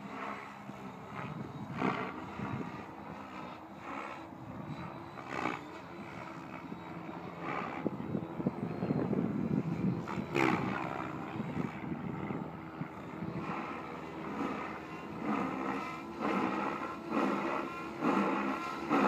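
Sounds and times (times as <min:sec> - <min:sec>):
rc helicopter motor and rotor whine: 0:00.0 - 0:19.0.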